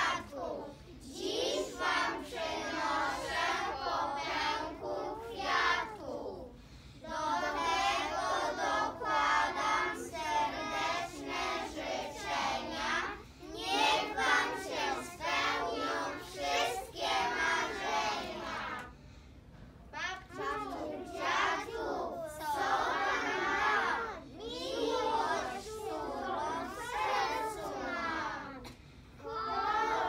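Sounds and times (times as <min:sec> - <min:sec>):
young children singing: 0:00.0 - 0:18.9, 0:20.0 - 0:30.0.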